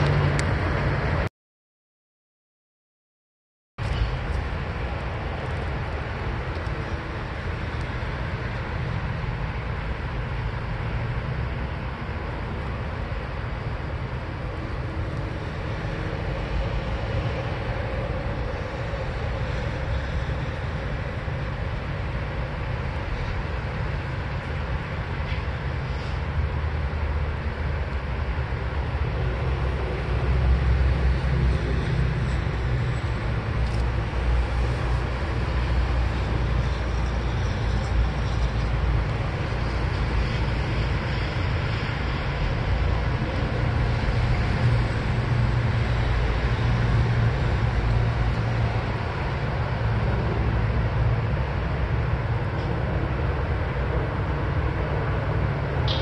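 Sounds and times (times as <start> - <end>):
low outdoor rumble: 0.0 - 1.3, 3.8 - 56.0.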